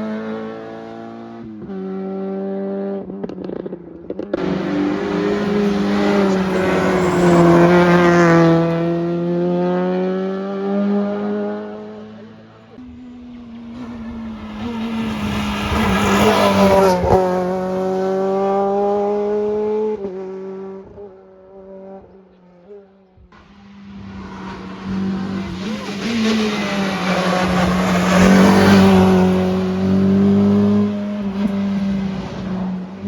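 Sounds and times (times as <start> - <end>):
rally car engine passing: 0.0 - 33.0
second rally car passing: 0.0 - 33.0.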